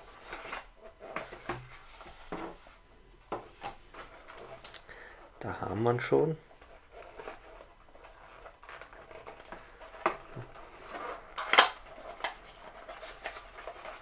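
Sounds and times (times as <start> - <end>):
cardboard rustling and scraping: 0.0 - 4.7, 6.5 - 14.0.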